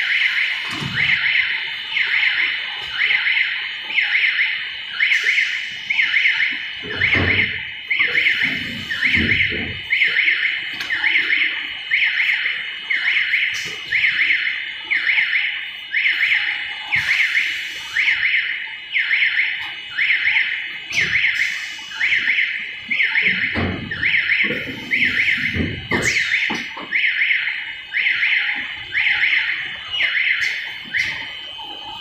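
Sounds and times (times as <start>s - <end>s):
warbling electronic warning alarm: 0.0s - 32.0s.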